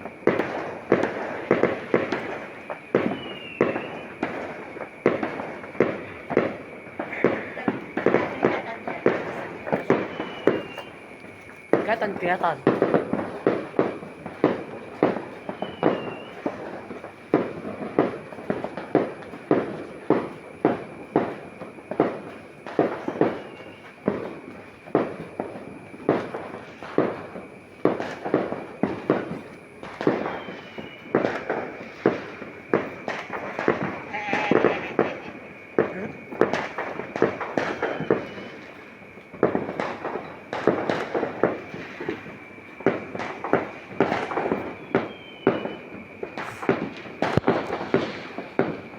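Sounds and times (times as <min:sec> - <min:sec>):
firecrackers banging: 0:00.0 - 0:48.9.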